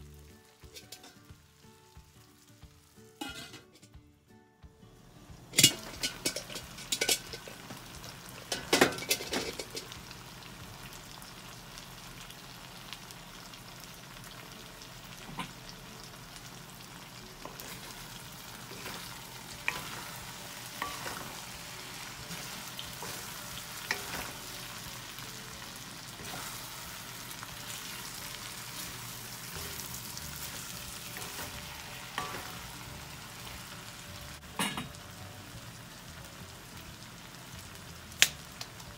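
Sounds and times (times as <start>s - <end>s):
meat and potato sizzling in a wok: 0.0s - 3.7s, 5.0s - 38.9s.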